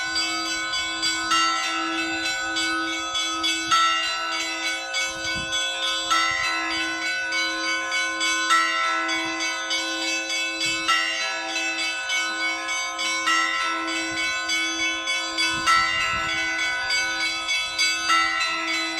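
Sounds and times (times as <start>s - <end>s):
church bells pealing: 0.0s - 18.9s
heavy bell strike: 0.0s - 18.9s.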